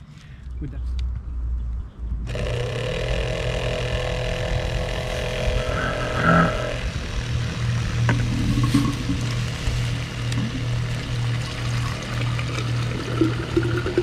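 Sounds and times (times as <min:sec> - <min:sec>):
electric water pump humming: 0:02.2 - 0:14.0.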